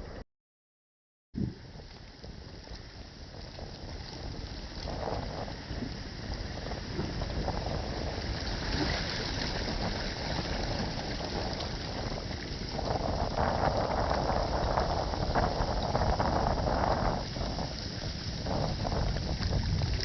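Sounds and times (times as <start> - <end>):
water rushing along a hull: 1.4 - 20.0
wind on microphone: 1.4 - 20.0.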